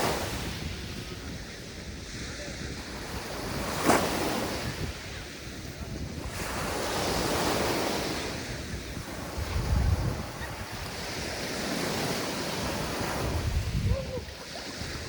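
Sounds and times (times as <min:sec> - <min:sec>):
sea waves breaking on shore: 0:00.0 - 0:15.0
wind rumbling on microphone: 0:00.0 - 0:15.0.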